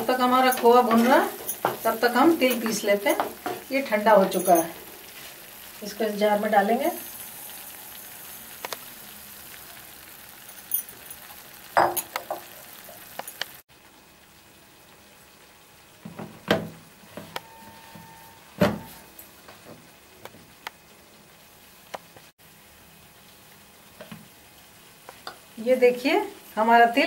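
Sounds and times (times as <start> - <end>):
faint frying sizzle: 0.0 - 27.0.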